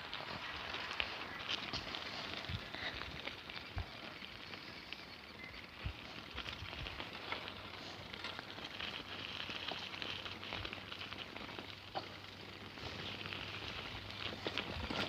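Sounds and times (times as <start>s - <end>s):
bicycle clicks and rattles: 0.0s - 15.0s
bicycle tyres crunching on gravel: 0.0s - 15.0s.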